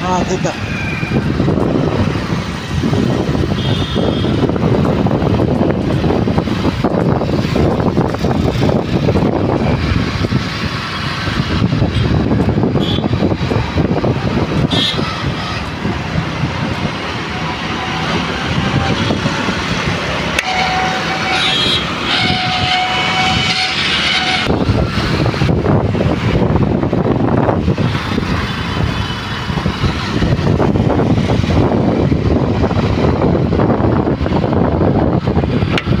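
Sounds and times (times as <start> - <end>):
road traffic noise: 0.0 - 36.0
wind buffeting microphone: 0.0 - 36.0.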